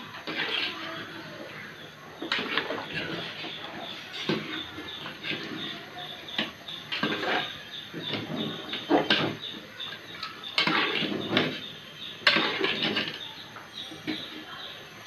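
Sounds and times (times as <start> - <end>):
metal spoon scraping a pot: 0.2 - 13.4
spoon clanking on pot: 2.2 - 14.4.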